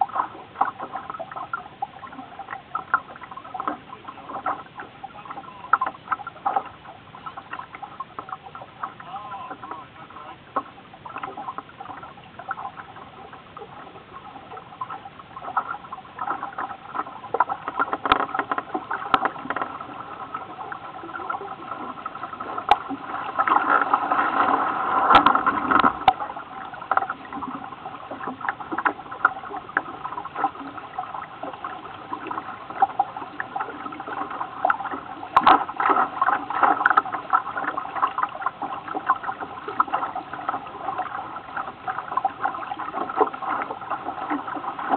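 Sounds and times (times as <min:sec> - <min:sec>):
motorboat engine hum: 0:00.0 - 0:44.9
water slapping against hull: 0:00.0 - 0:44.9.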